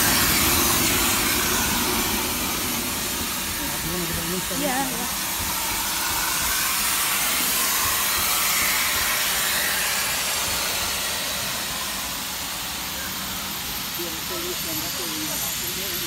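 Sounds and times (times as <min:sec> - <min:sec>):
locomotive hissing: 0:00.0 - 0:16.0.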